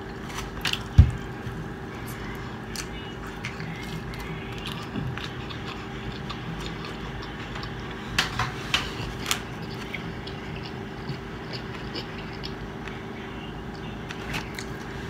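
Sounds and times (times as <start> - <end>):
low hum: 0.0 - 15.0
person chewing pizza: 0.0 - 15.0.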